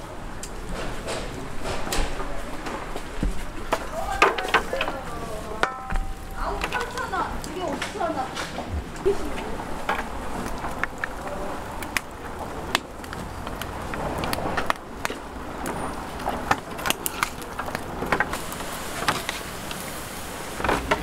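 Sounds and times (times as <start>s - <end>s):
background hubbub: 0.0s - 21.0s.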